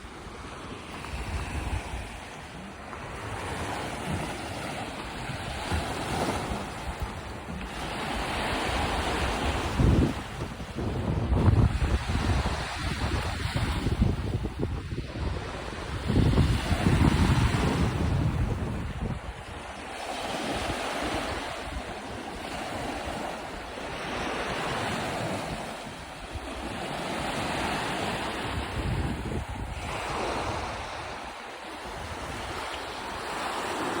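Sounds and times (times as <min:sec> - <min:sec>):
lake water: 0:00.0 - 0:34.0
waves washing onto shore: 0:00.0 - 0:34.0
wind buffeting microphone: 0:00.0 - 0:34.0.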